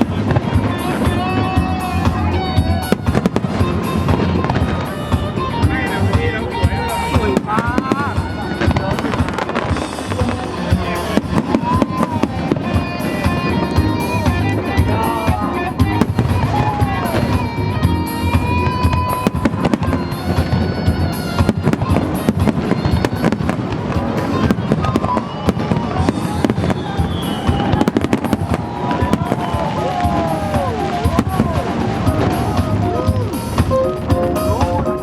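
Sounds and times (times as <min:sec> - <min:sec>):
fireworks bursting: 0:00.0 - 0:35.0
music playing: 0:00.0 - 0:35.0.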